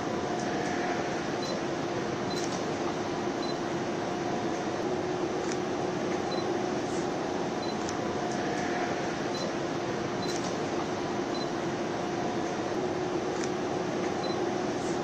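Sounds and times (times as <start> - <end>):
fan whirring: 0.0 - 15.0.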